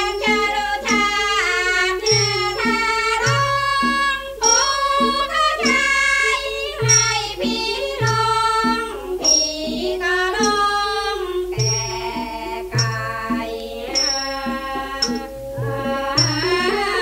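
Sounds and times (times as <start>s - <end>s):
classical ensemble music from a record: 0.0s - 17.0s
high percussion stroke: 0.0s - 17.0s.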